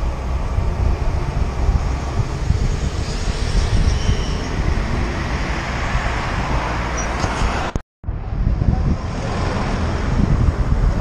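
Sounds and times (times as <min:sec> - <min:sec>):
road traffic: 0:00.0 - 0:11.0
wind rumbling on microphone: 0:00.0 - 0:11.0.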